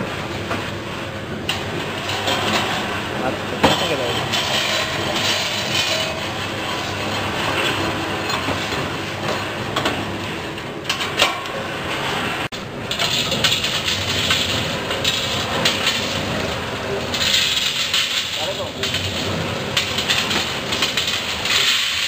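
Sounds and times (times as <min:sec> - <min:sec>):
coffee beans rattling in roaster drum: 0:00.0 - 0:22.0.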